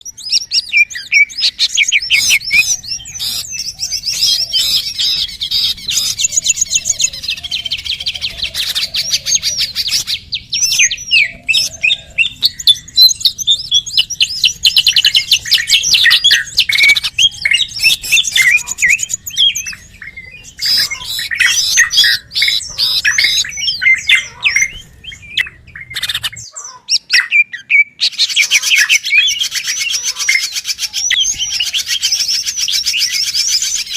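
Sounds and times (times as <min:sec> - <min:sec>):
small birds chirping and twittering: 0:00.0 - 0:33.9.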